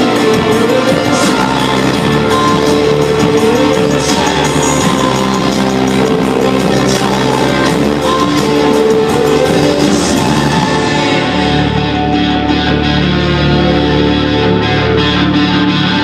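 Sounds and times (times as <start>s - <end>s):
rock band music with singing: 0.0s - 16.0s.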